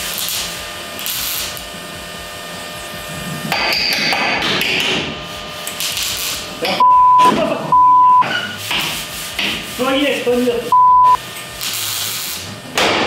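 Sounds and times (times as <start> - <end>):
welding arc crackle: 0.0 - 7.7, 8.6 - 13.0
metal-working noise: 0.0 - 13.0.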